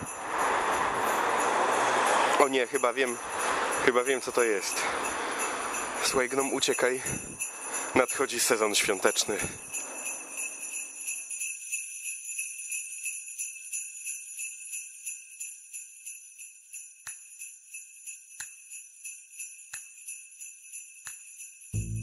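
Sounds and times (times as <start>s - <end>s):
sleigh bells shaken: 0.0s - 22.0s.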